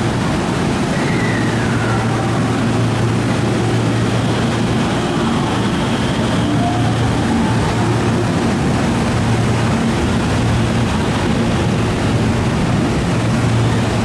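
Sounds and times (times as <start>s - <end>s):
electric train hum: 0.0s - 14.0s.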